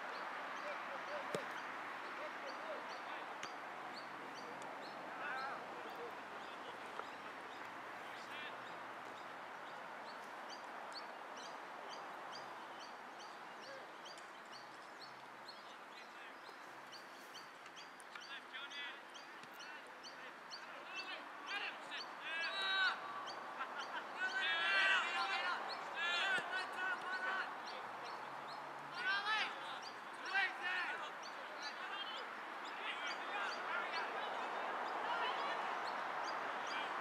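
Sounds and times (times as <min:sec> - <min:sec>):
birds chirping: 0:00.0 - 0:37.0
distant voices calling: 0:00.0 - 0:37.0.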